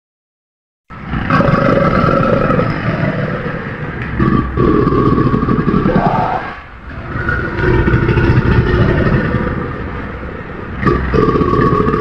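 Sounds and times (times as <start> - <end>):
growling crocodile roar: 0.9 - 12.0.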